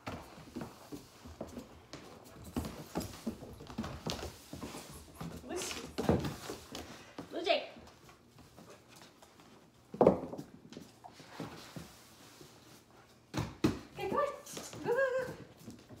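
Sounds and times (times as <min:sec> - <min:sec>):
puppies scuffling on wood floor: 0:00.0 - 0:16.0.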